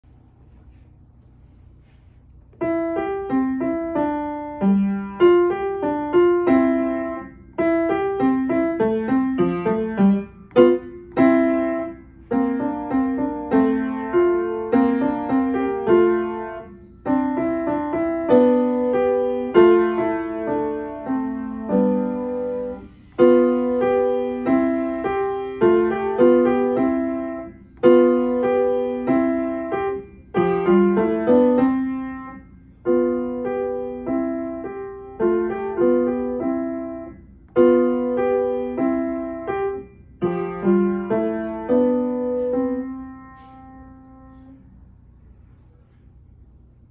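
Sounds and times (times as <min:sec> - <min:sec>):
upright piano playing: 0:02.6 - 0:44.5.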